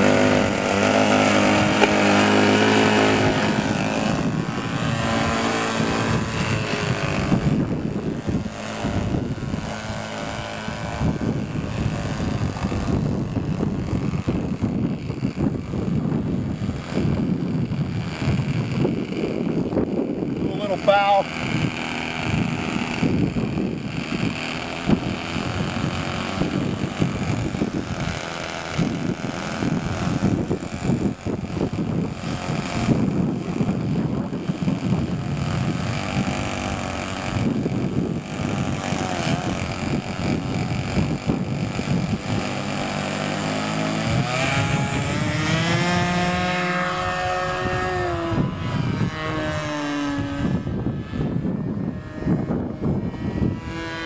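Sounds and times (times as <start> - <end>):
model airplane engine running: 0.0 - 54.0
rough rushing noise: 0.0 - 54.0.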